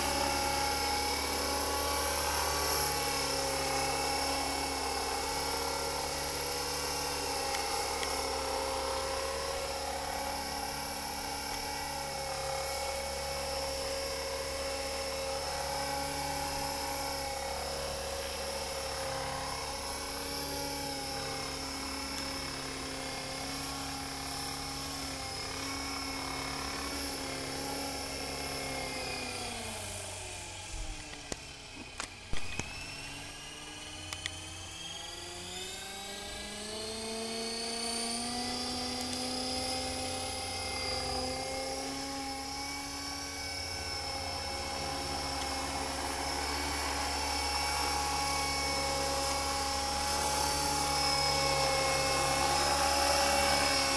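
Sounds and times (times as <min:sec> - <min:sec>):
rotor hum: 0:00.0 - 0:31.6, 0:32.8 - 0:53.9
model helicopter motor whine: 0:00.0 - 0:53.9.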